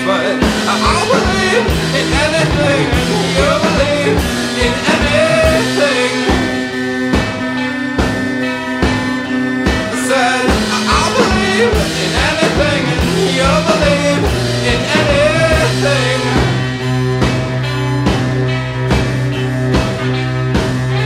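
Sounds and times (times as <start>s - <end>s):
song with singing voice: 0.0s - 17.2s.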